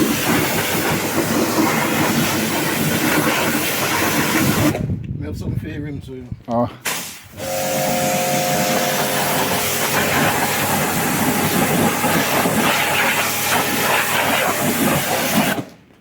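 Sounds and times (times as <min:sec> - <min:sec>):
pressure washer spraying water: 0:00.0 - 0:04.8, 0:06.8 - 0:15.7.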